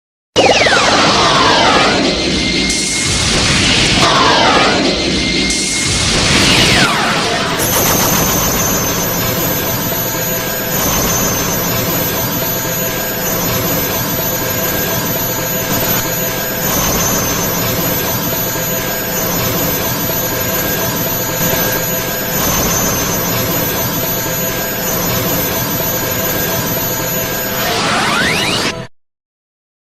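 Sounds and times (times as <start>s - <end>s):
whirring roar with high whine: 0.4s - 28.9s.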